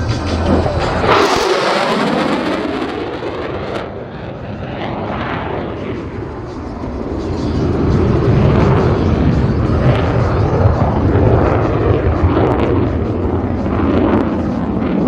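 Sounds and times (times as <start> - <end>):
fighter jet passing with roar: 0.0 - 15.0.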